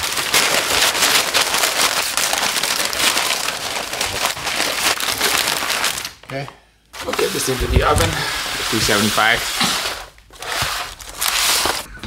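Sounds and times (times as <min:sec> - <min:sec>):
paper rustling and crinkling: 0:00.0 - 0:11.9.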